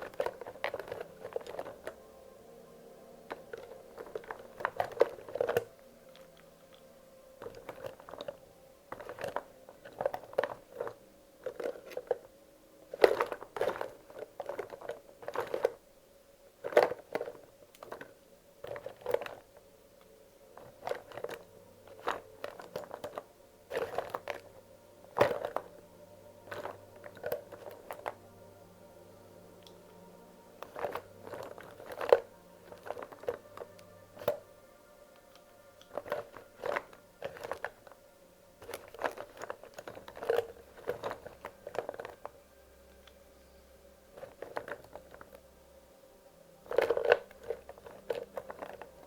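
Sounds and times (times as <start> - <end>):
crayons clicking together: 0.0 - 2.0, 3.3 - 15.8, 16.6 - 25.8, 26.4 - 28.2, 29.6 - 34.4, 35.1 - 38.0, 38.6 - 43.2, 44.1 - 45.5, 46.6 - 49.0.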